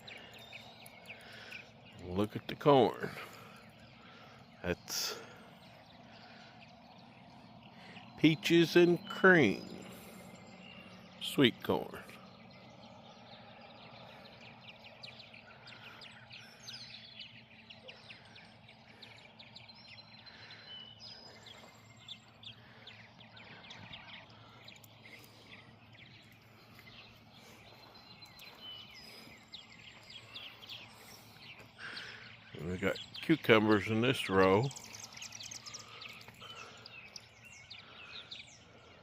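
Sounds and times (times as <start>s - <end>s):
birds chirping: 0.0s - 39.0s
steady low hum: 0.0s - 39.0s
whistled bird notes: 0.0s - 39.0s.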